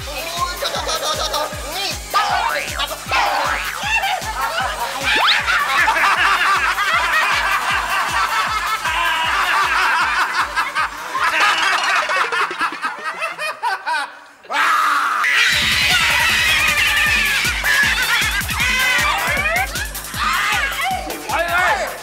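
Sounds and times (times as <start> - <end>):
background music with quick beat: 0.0 - 13.0, 15.4 - 22.0
group cackling with laughter: 0.5 - 22.0.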